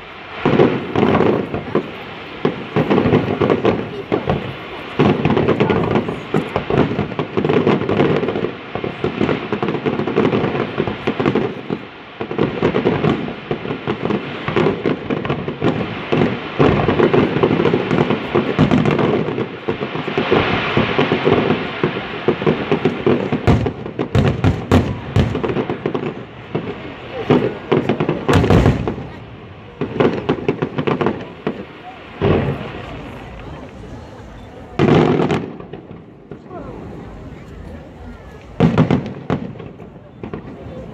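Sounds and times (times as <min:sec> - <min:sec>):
fireworks bursts and crackling: 0:00.0 - 0:40.9.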